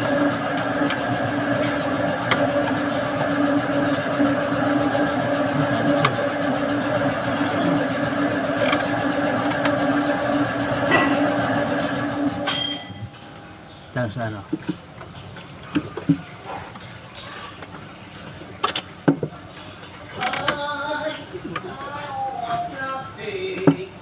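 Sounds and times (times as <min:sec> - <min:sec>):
machine running steadily: 0:00.0 - 0:24.0.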